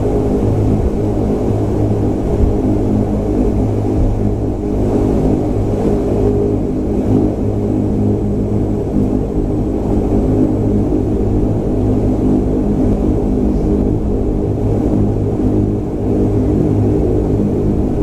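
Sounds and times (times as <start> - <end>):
humming propeller tones: 0.0 - 18.0
turboprop engines droning in cabin: 0.0 - 18.0.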